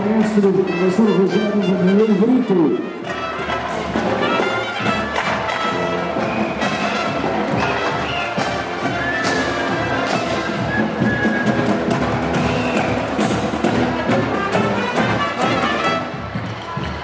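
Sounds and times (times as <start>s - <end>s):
horns playing sustained notes: 0.0s - 16.6s
marching drums and percussion: 0.0s - 17.0s.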